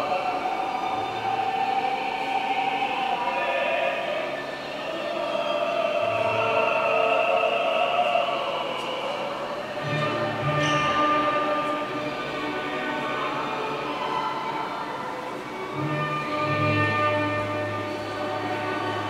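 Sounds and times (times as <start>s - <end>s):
choir-like voices sliding in pitch: 0.0s - 19.0s.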